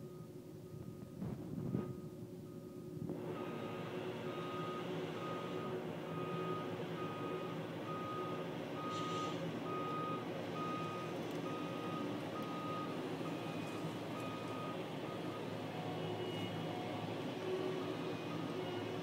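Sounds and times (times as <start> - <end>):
backup alarm beeping: 1.9 - 19.0.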